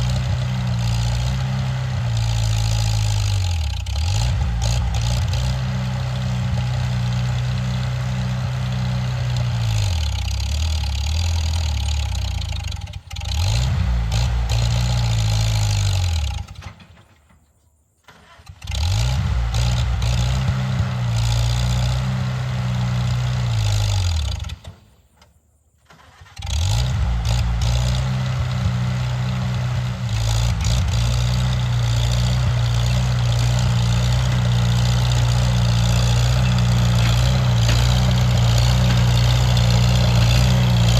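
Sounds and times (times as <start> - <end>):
tractor engine stalling: 0.0 - 40.9.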